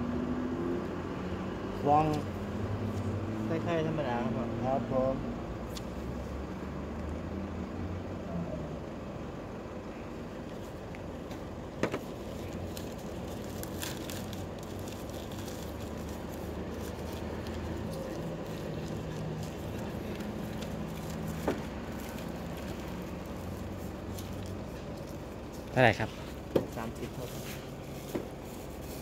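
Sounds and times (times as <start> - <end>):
street background hum: 0.0 - 29.0.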